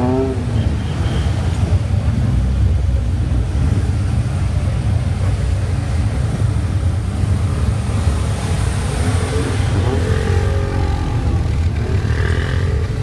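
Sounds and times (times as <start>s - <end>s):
car exhausts rumbling: 0.0s - 13.0s.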